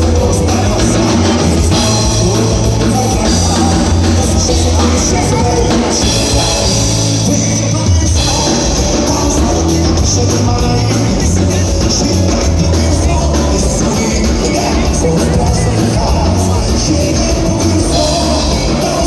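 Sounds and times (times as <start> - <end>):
bass and drums beat: 0.0 - 19.0
live band playing dance music: 0.0 - 19.0.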